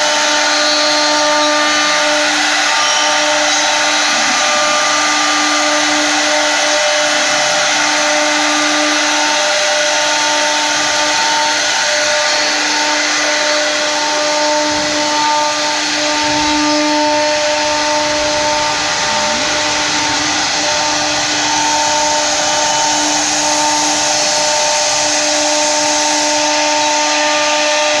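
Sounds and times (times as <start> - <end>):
hiss of wood cutting: 0.0 - 28.0
spindle motors whining: 0.0 - 28.0.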